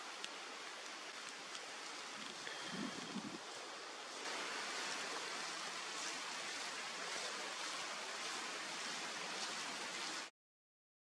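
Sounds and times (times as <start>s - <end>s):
outdoor hiss: 0.0s - 10.3s.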